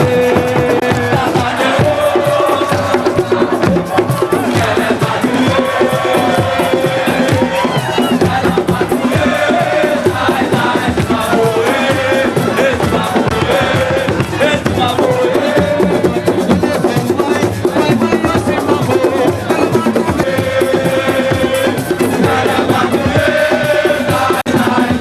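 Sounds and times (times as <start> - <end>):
crowd singing along: 0.0 - 25.0
dense fast drumming: 0.0 - 25.0
voices singing: 0.0 - 25.0.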